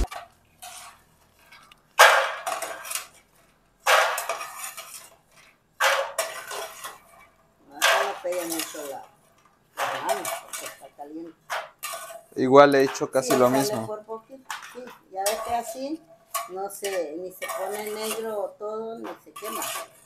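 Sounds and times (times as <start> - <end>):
spatula scraping beans in metal pan: 0.0 - 20.0.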